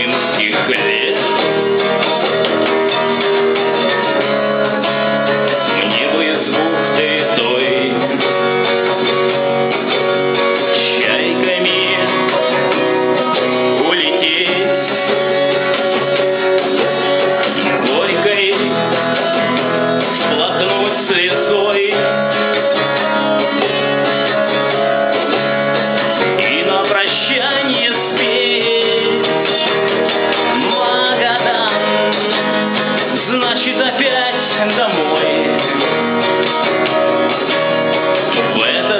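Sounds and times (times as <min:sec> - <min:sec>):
strummed acoustic guitar music: 0:00.0 - 0:38.9.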